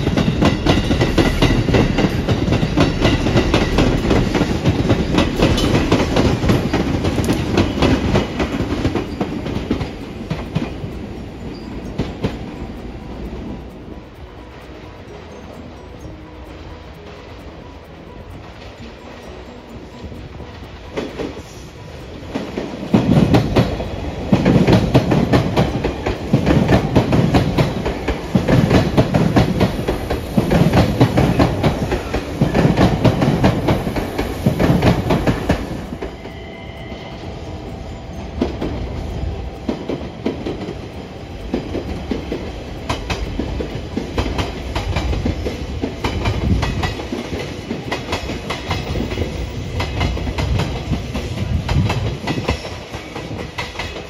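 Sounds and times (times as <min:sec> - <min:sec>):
train wheels clacking over rail joints: 0:00.0 - 0:14.6, 0:18.4 - 0:36.4, 0:37.7 - 0:54.0.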